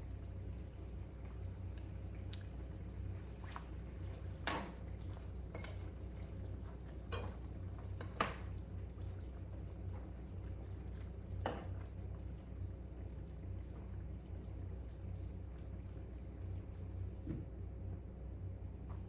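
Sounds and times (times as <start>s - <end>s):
pot simmering with bubbling pops: 0.0s - 17.6s.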